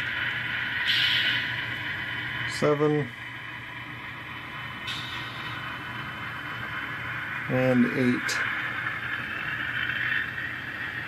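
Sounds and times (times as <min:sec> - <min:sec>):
diesel engine sound from small speaker: 0:00.0 - 0:11.0
thin steady whine: 0:00.0 - 0:11.0.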